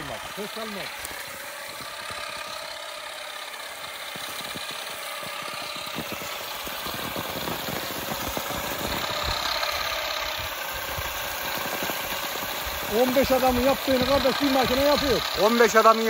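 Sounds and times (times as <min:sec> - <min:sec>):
motor whine: 0:00.0 - 0:16.0
beater head knocking branches: 0:00.9 - 0:15.7.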